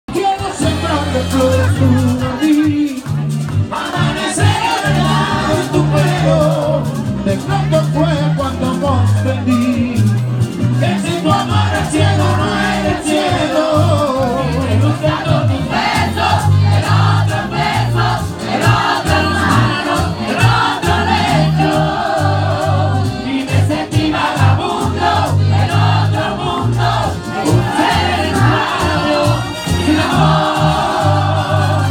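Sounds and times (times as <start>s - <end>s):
voices singing together: 0.1s - 8.0s, 10.8s - 31.9s
merengue band playing: 0.1s - 31.9s.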